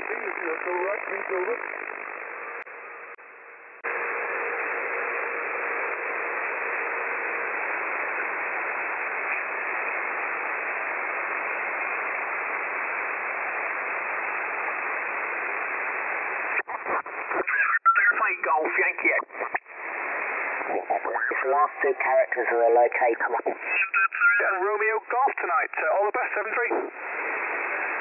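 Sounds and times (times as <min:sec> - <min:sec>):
radio band noise hiss: 0:00.0 - 0:02.4, 0:03.9 - 0:28.0.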